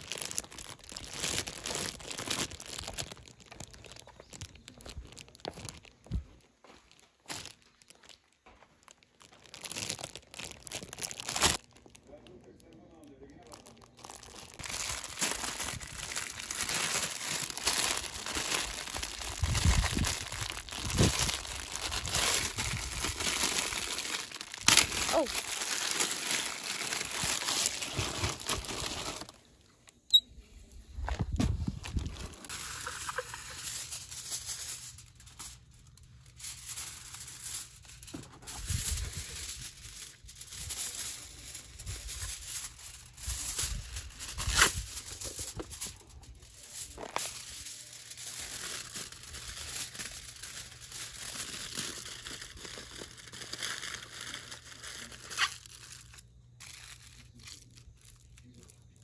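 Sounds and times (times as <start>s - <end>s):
crinkly material rustling: 0.0s - 59.0s.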